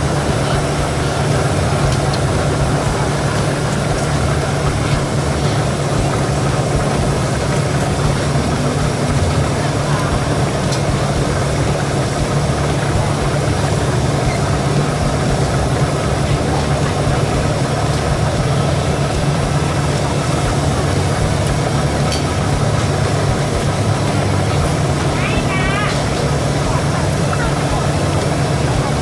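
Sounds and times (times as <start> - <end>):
low hum: 0.0 - 29.0
steady engine drone: 0.0 - 29.0.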